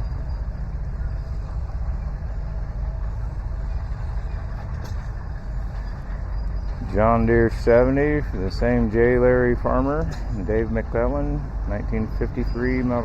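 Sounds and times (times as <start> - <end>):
engine idling hum: 0.0 - 13.0
outdoor background noise: 0.0 - 13.0.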